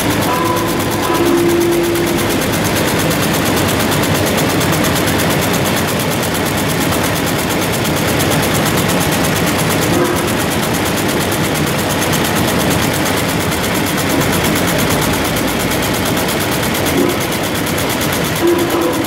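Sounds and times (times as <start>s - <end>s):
knotting machine clattering: 0.0s - 19.0s.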